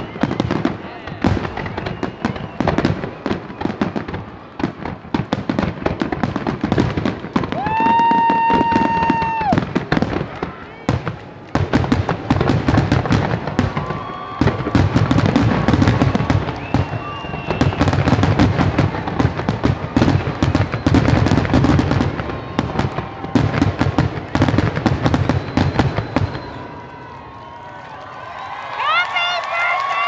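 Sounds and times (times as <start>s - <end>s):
fireworks booming and crackling: 0.0s - 27.6s.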